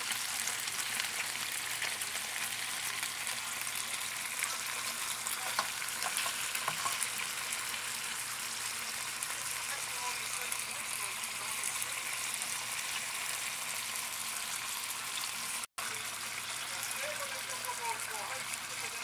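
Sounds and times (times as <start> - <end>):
chicken sizzling in a skillet: 0.0 - 19.0.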